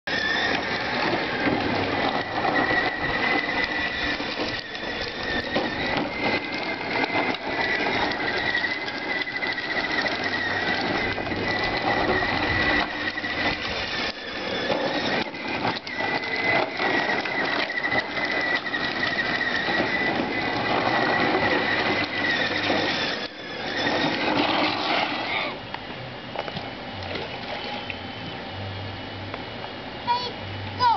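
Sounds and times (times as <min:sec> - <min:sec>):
electric motor whining: 0:00.1 - 0:25.7
plastic wheels rolling on concrete: 0:00.1 - 0:28.2.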